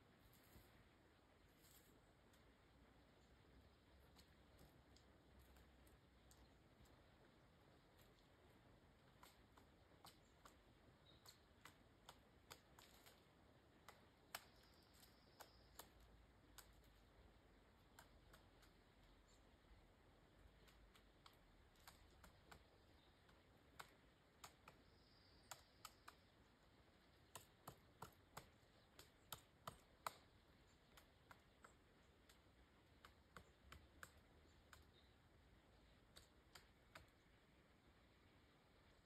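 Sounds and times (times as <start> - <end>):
woodpecker pecking wood: 2.3 - 37.7.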